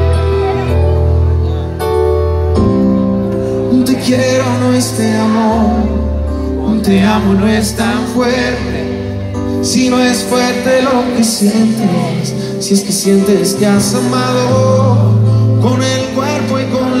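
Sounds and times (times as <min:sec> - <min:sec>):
live band playing pop ballad: 0:00.0 - 0:17.0.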